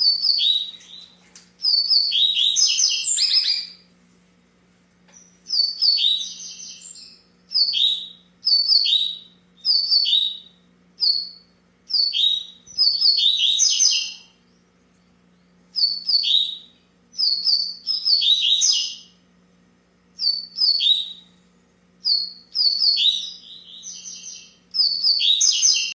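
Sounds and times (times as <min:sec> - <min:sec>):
bird singing high chirped notes: 0:00.0 - 0:03.8, 0:05.2 - 0:14.6, 0:15.8 - 0:19.1, 0:20.2 - 0:21.3, 0:22.0 - 0:25.9
faint low hum: 0:00.0 - 0:25.9.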